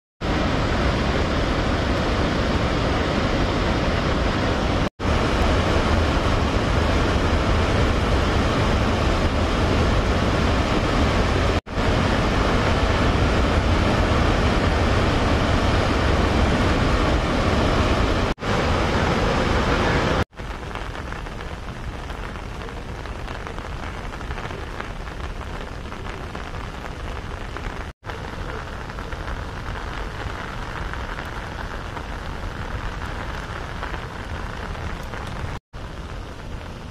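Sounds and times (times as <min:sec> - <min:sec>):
floodwater rushing: 0:00.2 - 0:36.9
rain falling: 0:00.2 - 0:36.9.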